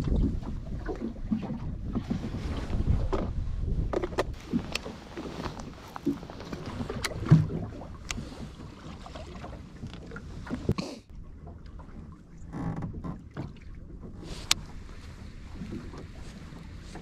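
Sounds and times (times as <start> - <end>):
low rumbling boat noise: 0.0 - 17.0.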